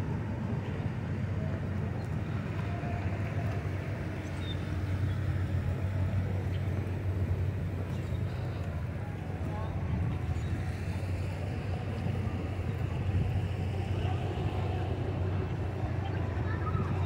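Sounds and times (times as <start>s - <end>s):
car traffic rumble: 0.0s - 17.0s.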